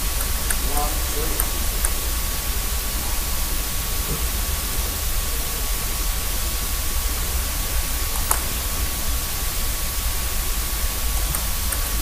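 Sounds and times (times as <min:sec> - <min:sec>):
faint high whine: 0:00.0 - 0:12.0
recording hiss: 0:00.0 - 0:12.0.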